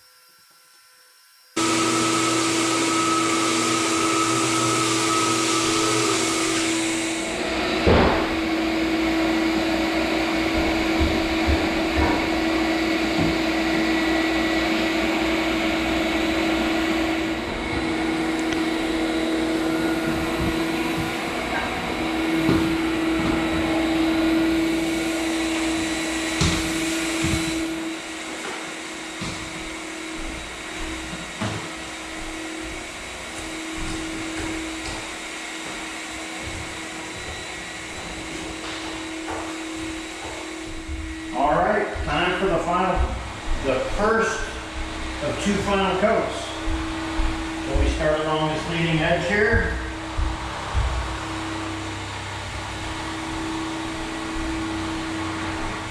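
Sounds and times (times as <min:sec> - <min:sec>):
electric motor humming: 0:00.0 - 0:55.9.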